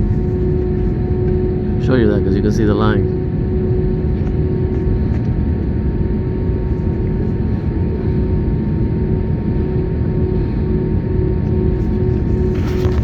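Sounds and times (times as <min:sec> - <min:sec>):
jet engines rumbling: 0:00.0 - 0:13.0
steady whine: 0:00.0 - 0:13.0.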